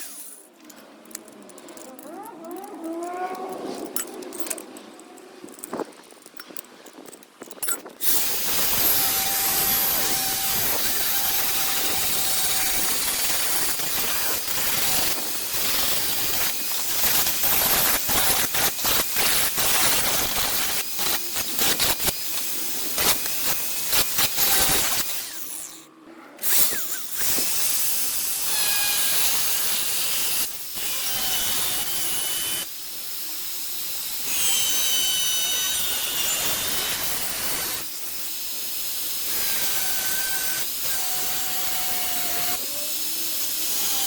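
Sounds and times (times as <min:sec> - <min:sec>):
power tool cutting sheet steel: 0:00.0 - 0:00.5, 0:08.0 - 0:44.0.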